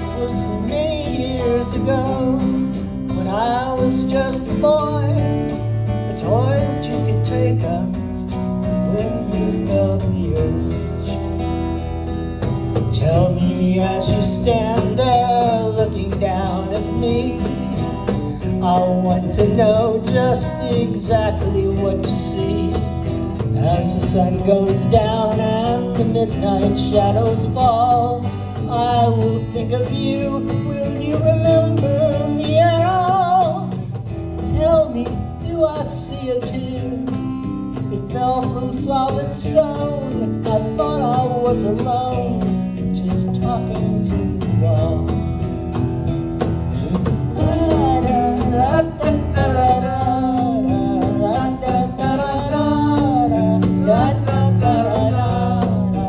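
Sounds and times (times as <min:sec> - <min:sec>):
man singing with vibrato: 0:00.0 - 0:45.4, 0:46.8 - 0:56.0
cajon drumming: 0:00.0 - 0:56.0
electric guitar: 0:00.0 - 0:56.0
strummed acoustic guitar: 0:00.0 - 0:56.0.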